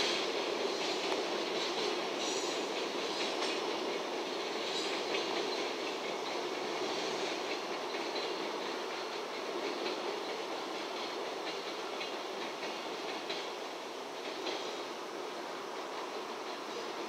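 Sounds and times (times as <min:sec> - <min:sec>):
wheels clicking over rail joints: 0:00.0 - 0:15.0
freight train rumbling: 0:00.0 - 0:17.0.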